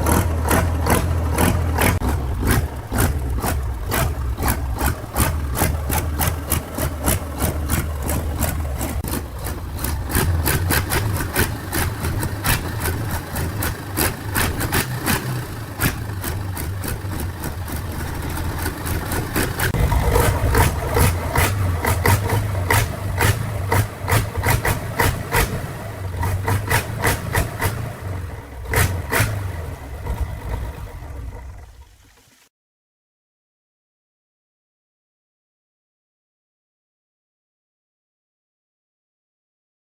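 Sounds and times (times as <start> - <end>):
engine idling with ticking: 0.0 - 32.1.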